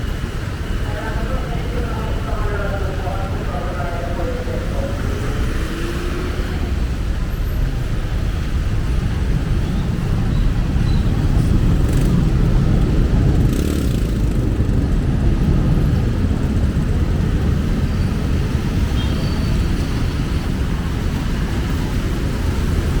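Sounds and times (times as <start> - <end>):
passing cars and motorcycles: 0.0 - 23.0.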